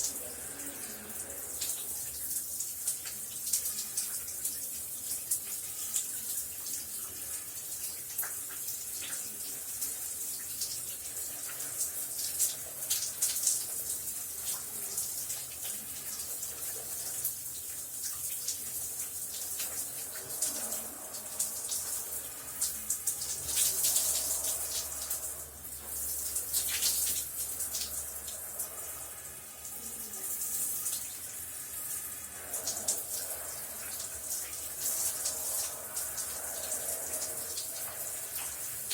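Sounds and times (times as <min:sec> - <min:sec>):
shower spray hissing: 0:00.0 - 0:38.9.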